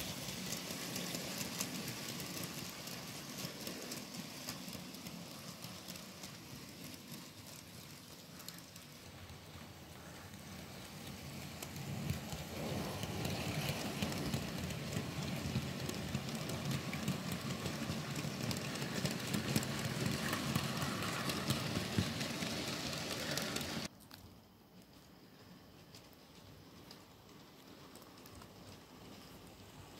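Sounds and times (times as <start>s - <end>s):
model train rattling on track: 0.0s - 23.9s, 25.7s - 29.9s.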